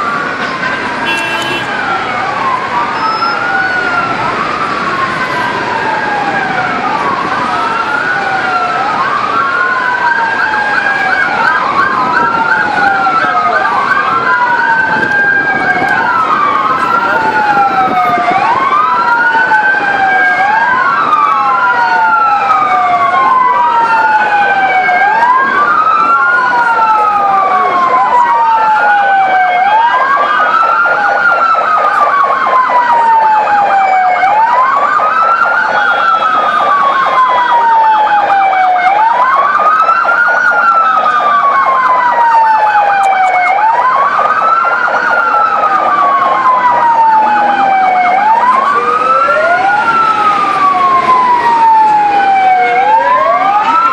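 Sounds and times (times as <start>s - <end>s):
emergency sirens wailing: 0.0s - 53.9s
fast warbling siren: 0.0s - 53.9s.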